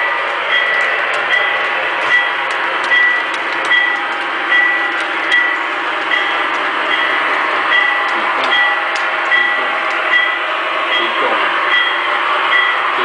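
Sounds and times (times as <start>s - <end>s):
wheels clicking on rail joints: 0.0s - 12.8s
model train rattling on track: 0.0s - 13.0s.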